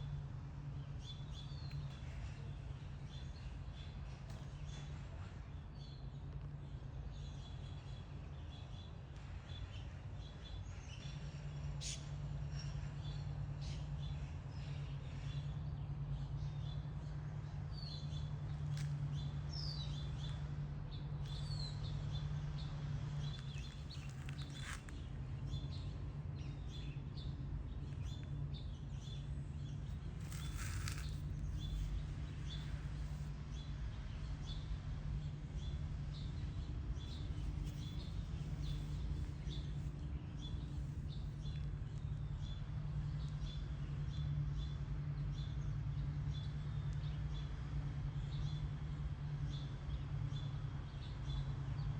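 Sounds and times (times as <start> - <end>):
steady low hum: 0.0 - 51.9
small birds chirping: 0.8 - 48.8.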